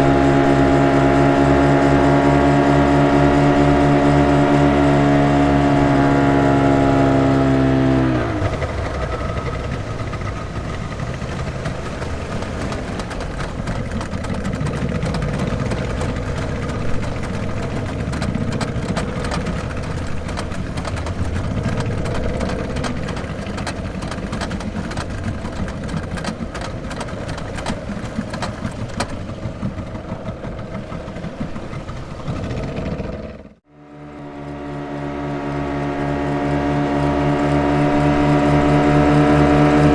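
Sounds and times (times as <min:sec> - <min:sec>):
speedboat engine running: 0:00.0 - 0:39.9.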